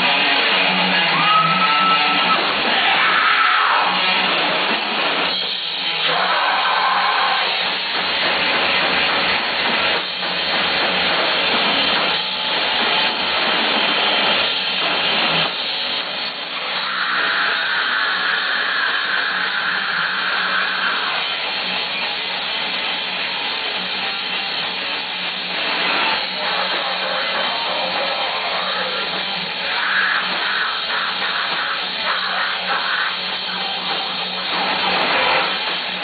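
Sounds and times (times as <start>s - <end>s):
drums: 0.0s - 36.0s
electric guitars: 0.0s - 36.0s.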